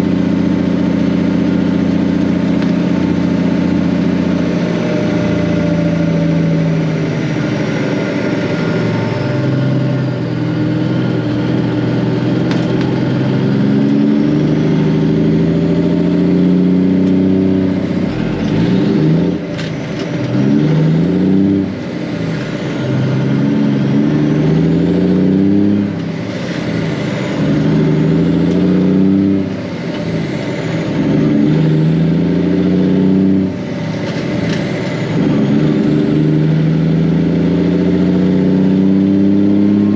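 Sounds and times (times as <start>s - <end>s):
truck diesel engine accelerating: 0.0s - 39.9s.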